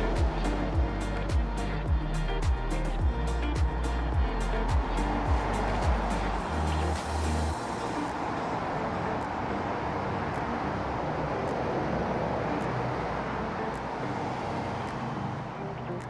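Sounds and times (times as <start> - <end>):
motorway traffic passing: 0.0 - 16.0.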